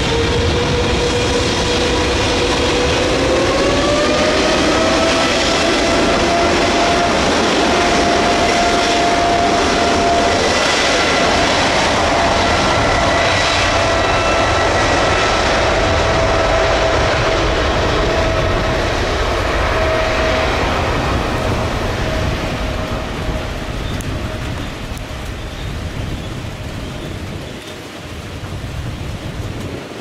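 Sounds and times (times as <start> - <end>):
jet engines roaring with whine: 0.0 - 30.0.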